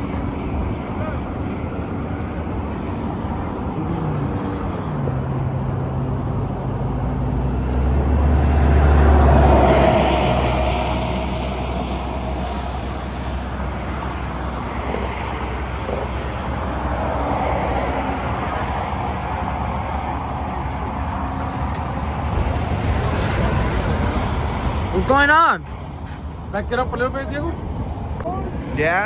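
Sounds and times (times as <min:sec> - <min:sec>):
vehicle engines running: 0:00.0 - 0:29.0.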